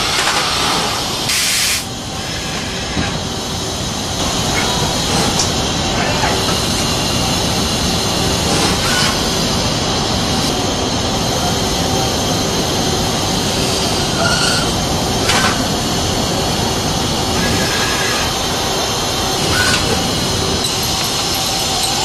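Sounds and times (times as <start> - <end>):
loud machine noise: 0.0 - 22.0.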